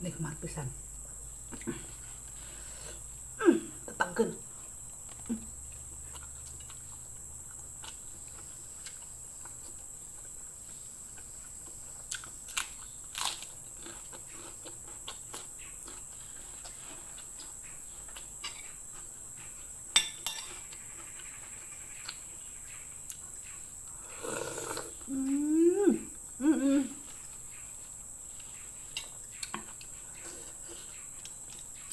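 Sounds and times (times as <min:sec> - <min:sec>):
high insect drone: 0:00.0 - 0:31.9
quiet chewing: 0:04.4 - 0:31.9.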